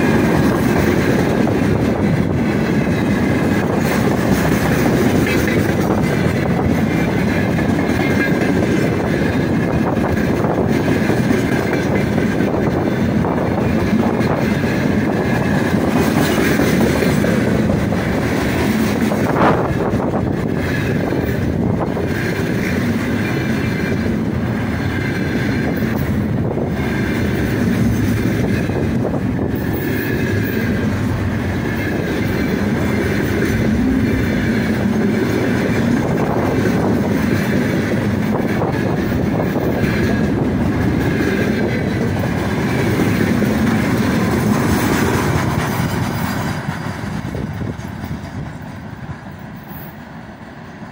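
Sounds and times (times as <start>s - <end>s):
freight train rumbling past: 0.0s - 50.9s
wheels clickety-clack on rail: 0.0s - 50.9s.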